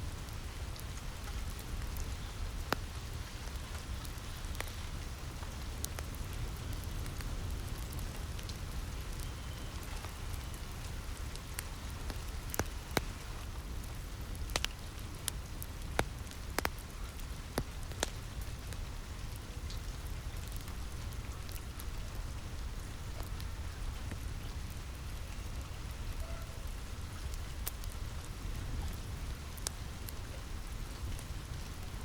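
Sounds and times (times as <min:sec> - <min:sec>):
rain falling on a roof: 0:00.0 - 0:32.0
wood fire crackling: 0:00.0 - 0:32.0.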